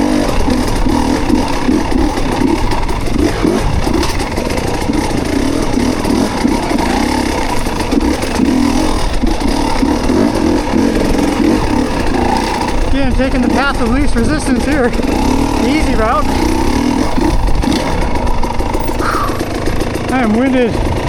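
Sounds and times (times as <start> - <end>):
dirt bike engine running: 0.0 - 21.0
engine clatter: 0.0 - 21.0.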